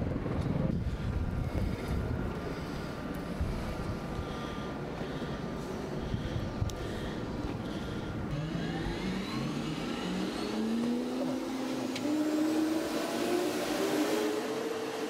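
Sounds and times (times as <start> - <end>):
helicopter engine rumble: 0.0 - 13.9
helicopter engine whine: 0.2 - 15.0.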